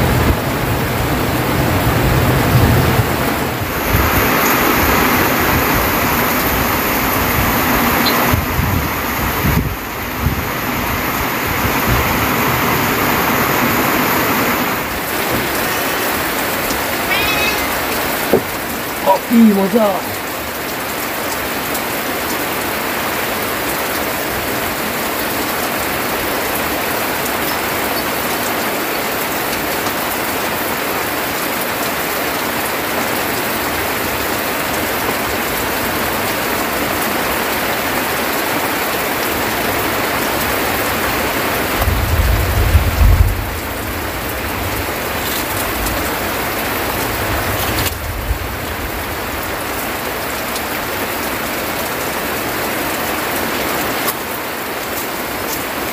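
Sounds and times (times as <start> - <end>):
heavy rain on a thatched roof: 0.0 - 55.9.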